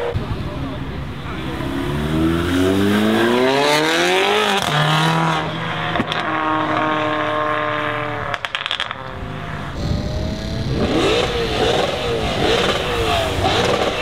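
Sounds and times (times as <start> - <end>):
car engine accelerating hard: 1.2 - 8.4, 9.0 - 14.0.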